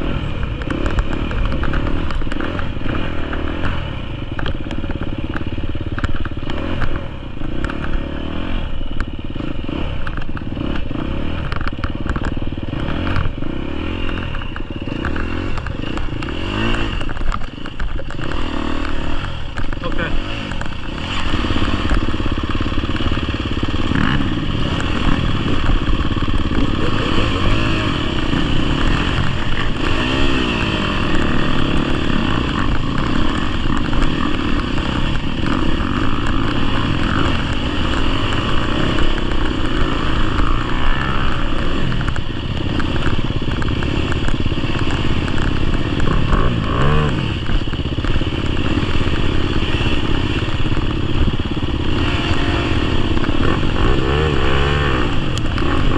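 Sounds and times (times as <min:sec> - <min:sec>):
dirt bike engine revving: 0:00.0 - 0:55.9
steady rush of noise: 0:00.0 - 0:55.9.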